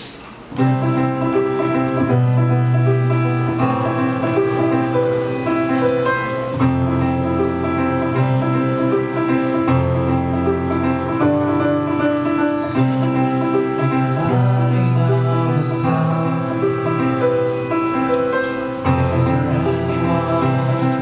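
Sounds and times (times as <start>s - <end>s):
keyboard chords: 0.5s - 21.0s.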